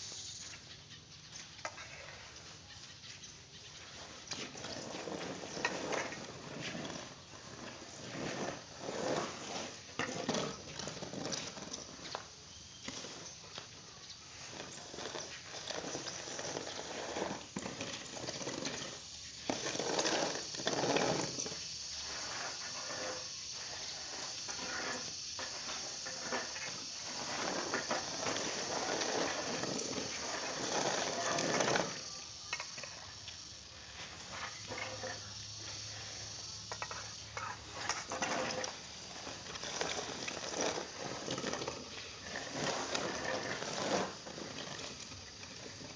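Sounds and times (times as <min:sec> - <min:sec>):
rice grain raked across floor: 0:03.8 - 0:45.9.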